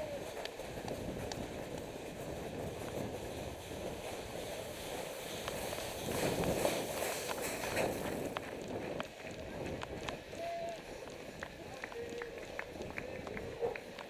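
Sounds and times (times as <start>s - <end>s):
running footsteps on gravel: 0.0s - 14.0s.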